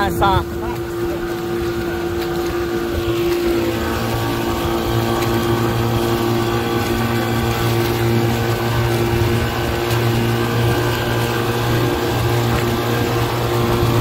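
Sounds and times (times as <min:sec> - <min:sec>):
outboard motor running: 0:00.0 - 0:14.0
rush of boat wake: 0:00.0 - 0:14.0.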